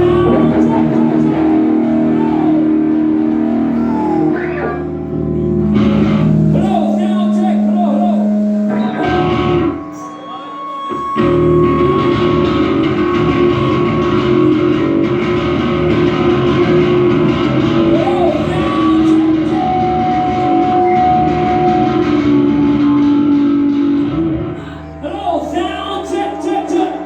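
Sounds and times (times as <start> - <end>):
rock music with guitar: 0.0 - 10.2, 10.8 - 25.0.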